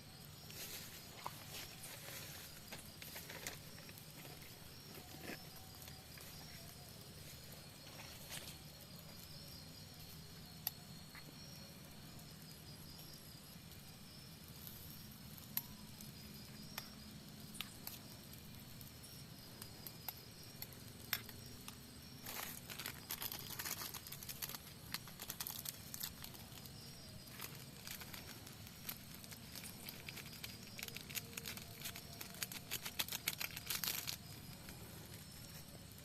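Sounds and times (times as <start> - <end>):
crackling and rustling: 0.0 - 11.5, 13.8 - 36.0
high pulsing insect call: 0.0 - 36.0.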